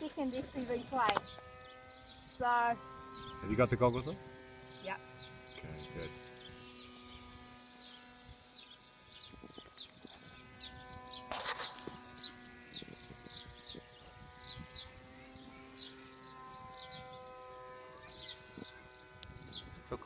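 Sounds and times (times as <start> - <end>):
electric motor and propeller drone: 0.0 - 20.0.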